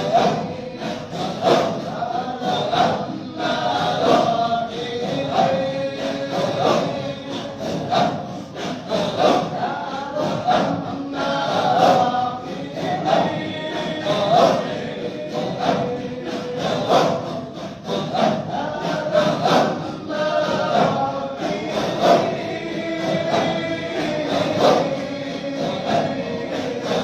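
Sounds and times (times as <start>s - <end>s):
group chanting in unison: 0.0s - 27.0s.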